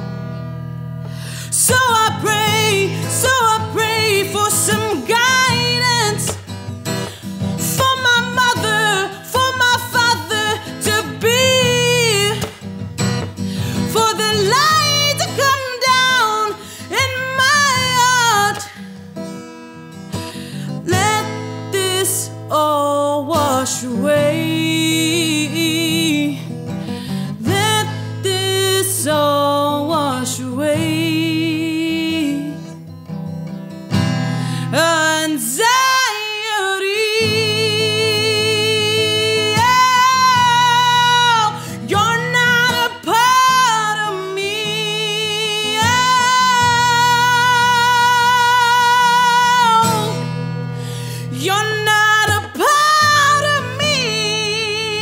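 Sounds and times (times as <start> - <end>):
strummed acoustic guitar: 0.0 - 55.0
woman singing wordless lines: 1.2 - 19.4, 20.5 - 32.9, 34.5 - 55.0.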